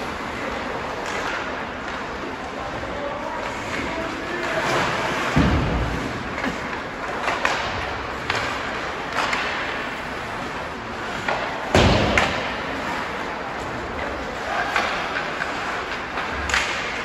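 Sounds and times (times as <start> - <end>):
puck and players hitting boards: 0.0 - 2.6, 3.4 - 17.0
echoing rink background: 0.0 - 17.0.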